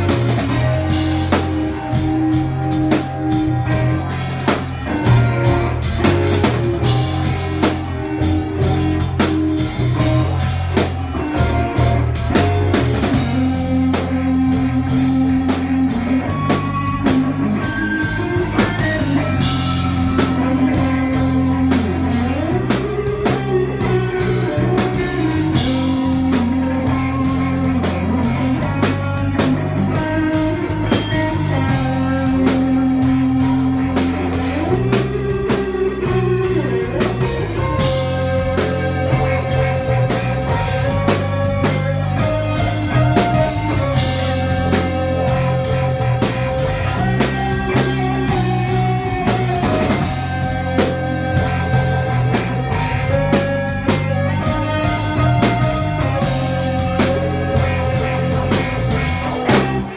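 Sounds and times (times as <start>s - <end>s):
bass line: 0.0s - 59.9s
drum kit beat: 0.0s - 59.9s
electric guitar: 0.0s - 59.9s
keyboards holding long notes: 0.0s - 59.9s.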